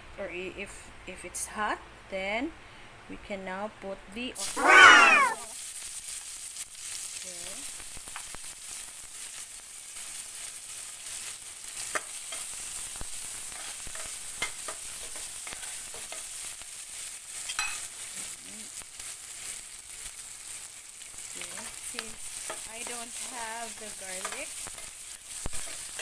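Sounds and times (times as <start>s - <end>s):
onions sizzling in hot oil: 4.4s - 26.0s.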